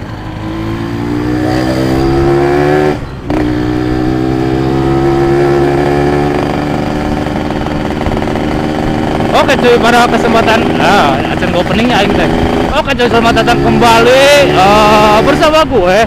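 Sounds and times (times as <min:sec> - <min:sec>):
motorbike engine revving: 0:00.0 - 0:15.7.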